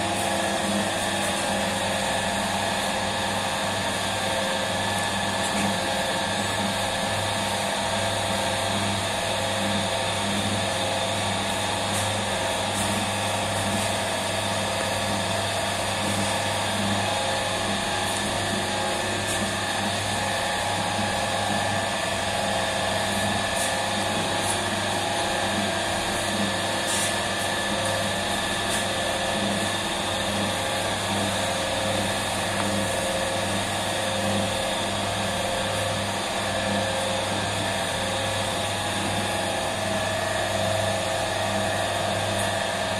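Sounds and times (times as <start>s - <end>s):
electric motor hum: 0.0s - 42.9s.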